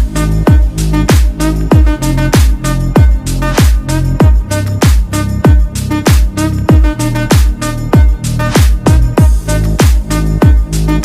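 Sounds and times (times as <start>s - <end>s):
heavy kick drum: 0.0s - 10.8s
electronic music: 0.0s - 11.0s.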